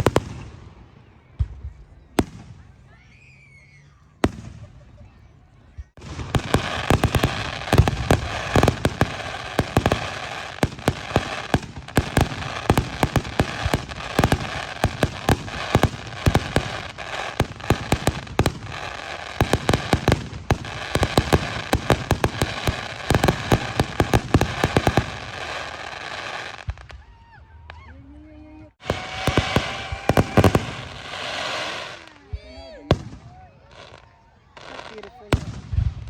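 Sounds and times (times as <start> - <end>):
fireworks bangs and crackling: 0.0 - 3.2, 4.2 - 27.8, 28.6 - 36.0.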